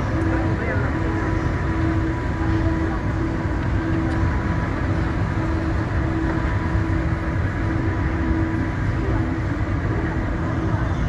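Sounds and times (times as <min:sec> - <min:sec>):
train interior low rumble: 0:00.0 - 0:11.0.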